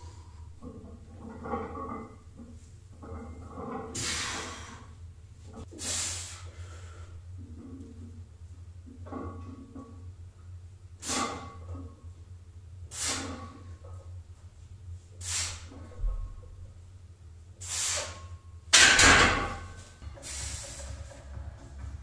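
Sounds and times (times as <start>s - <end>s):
low steady hum: 0.0s - 5.8s, 6.4s - 22.0s.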